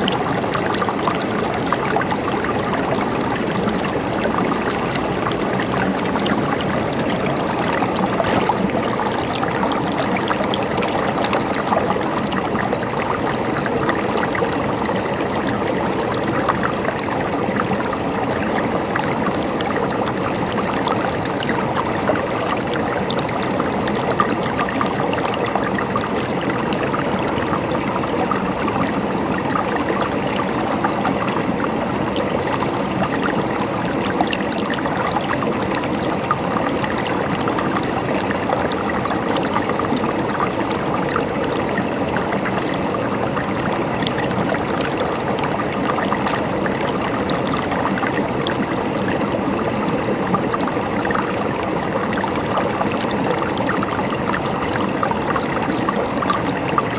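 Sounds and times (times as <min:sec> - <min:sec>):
stream trickling and babbling: 0:00.0 - 0:56.9.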